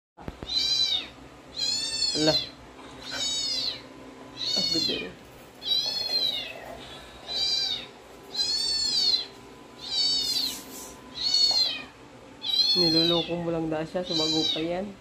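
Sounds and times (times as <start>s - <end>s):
kitten meowing: 0.4s - 13.3s, 14.1s - 14.6s.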